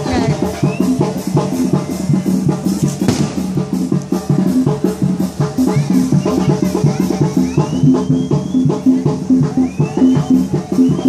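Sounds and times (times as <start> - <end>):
band music with drums: 0.0 - 11.0.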